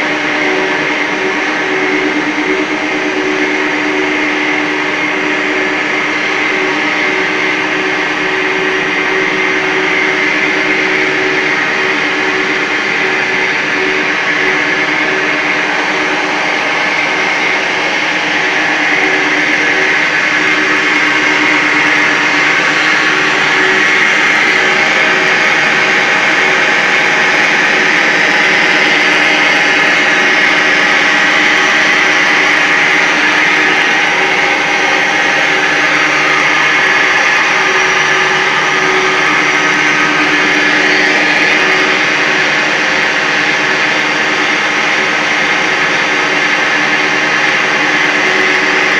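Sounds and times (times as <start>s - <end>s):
machine motors humming with whine: 0.0s - 48.9s.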